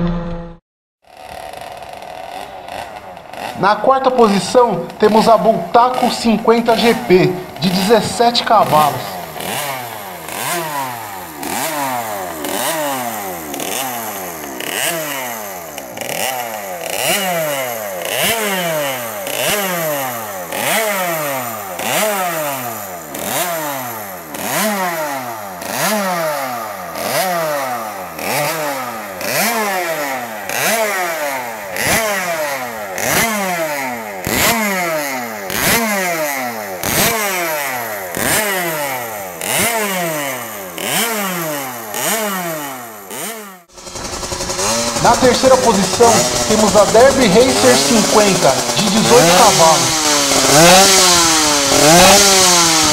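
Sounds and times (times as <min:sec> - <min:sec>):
two-stroke engine revving: 0:01.0 - 0:52.9.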